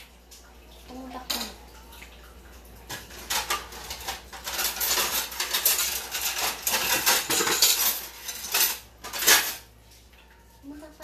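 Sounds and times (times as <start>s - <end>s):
utensils clattering against pots: 0.9s - 1.7s, 2.8s - 11.0s.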